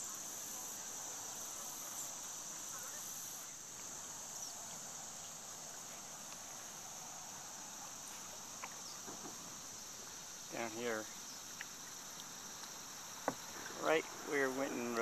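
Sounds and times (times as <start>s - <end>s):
insects shrilling: 0.0s - 15.0s.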